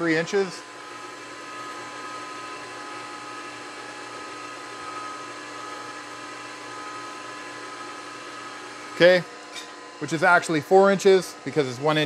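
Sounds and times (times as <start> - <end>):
milling machine motor hum: 0.0 - 12.0.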